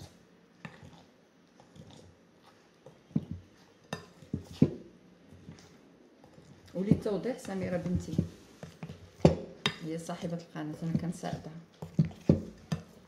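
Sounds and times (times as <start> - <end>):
masher squelching wet mixture: 0.0 - 13.0.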